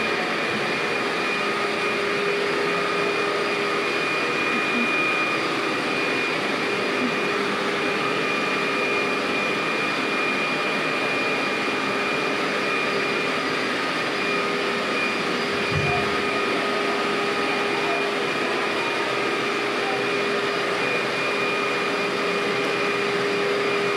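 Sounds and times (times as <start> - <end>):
vacuum cleaner motor whining: 0.0 - 23.9.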